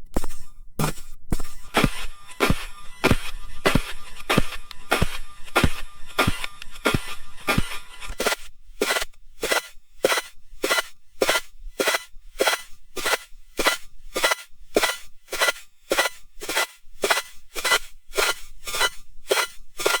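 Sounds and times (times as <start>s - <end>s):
footsteps crunching through snow: 0.2s - 20.0s.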